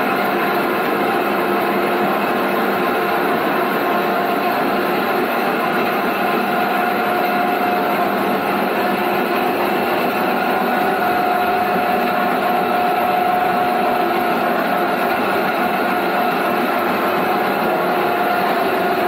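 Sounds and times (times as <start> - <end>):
pulping machine humming and whining: 0.0 - 19.0.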